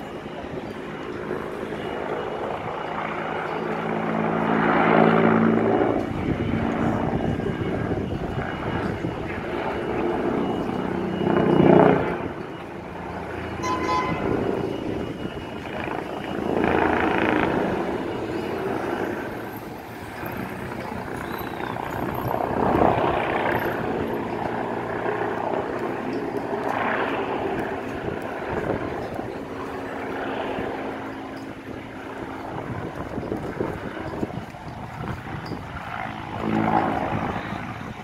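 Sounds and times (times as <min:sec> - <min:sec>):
aircraft engine hum: 0:00.0 - 0:38.0.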